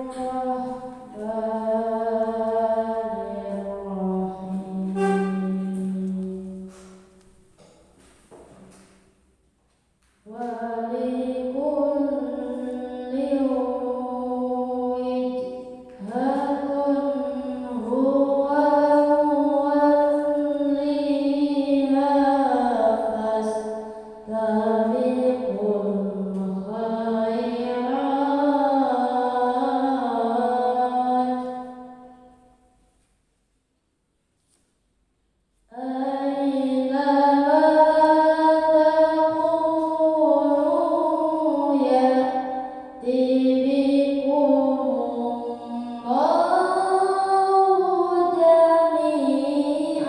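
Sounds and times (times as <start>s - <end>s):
boy reciting melodically: 0.0s - 7.1s, 10.3s - 32.2s, 35.7s - 50.0s.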